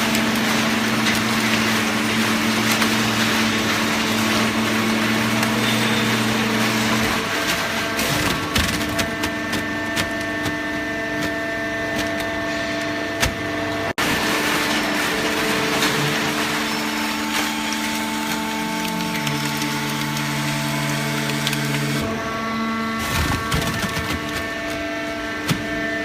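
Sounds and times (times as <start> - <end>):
baling machine humming: 0.0 - 26.0.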